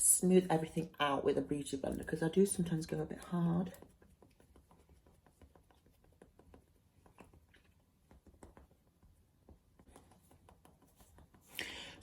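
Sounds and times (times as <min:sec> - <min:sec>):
makeup sponge dabbing skin: 0:01.8 - 0:11.6.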